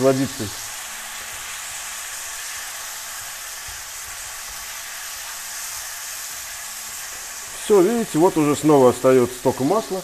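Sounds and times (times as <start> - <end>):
mushrooms sizzling in oil: 0.0 - 10.0.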